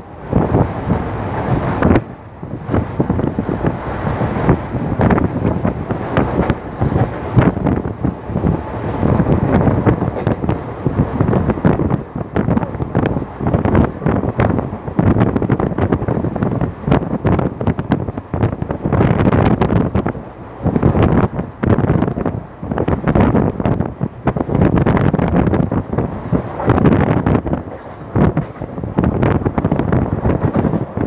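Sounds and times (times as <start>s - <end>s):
train wheels on rails: 0.0s - 31.0s
wind buffeting microphone: 0.0s - 31.0s.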